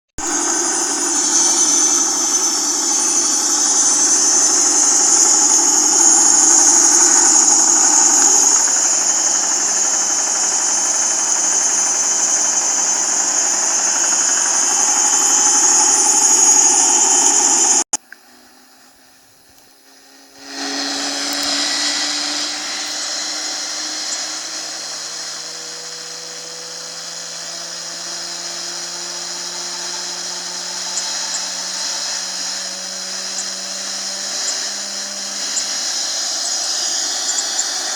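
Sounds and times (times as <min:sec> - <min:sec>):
washing machine spin cycle: 0:00.2 - 0:17.8, 0:20.1 - 0:37.9
jet engine whining: 0:00.2 - 0:17.9, 0:19.7 - 0:37.9.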